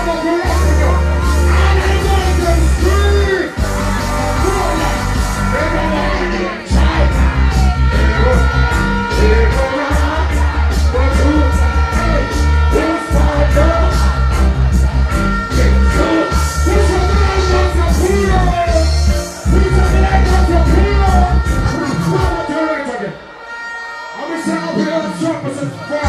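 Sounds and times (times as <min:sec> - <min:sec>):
man singing and chanting: 0:00.0 - 0:14.1, 0:15.5 - 0:23.1
dancehall backing rhythm: 0:00.0 - 0:23.6
shouts over music: 0:00.0 - 0:26.0.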